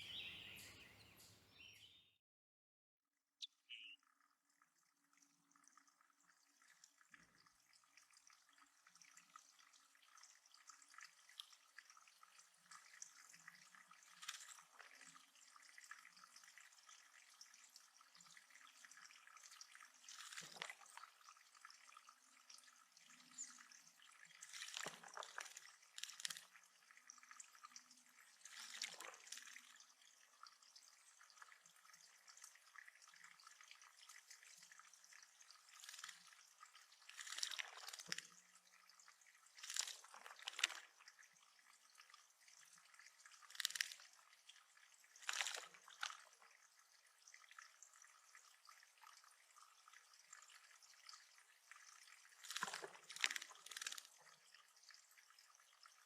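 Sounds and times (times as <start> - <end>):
water dripping and trickling: 3.4 - 56.0
water splashes: 4.8 - 56.0.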